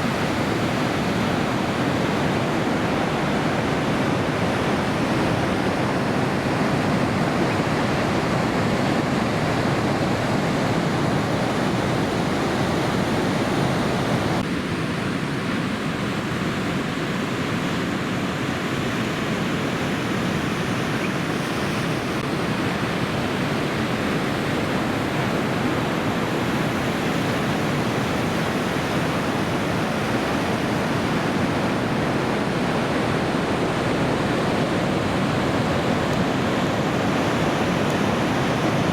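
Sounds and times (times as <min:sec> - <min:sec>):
heavy ocean surf: 0:00.0 - 0:38.9.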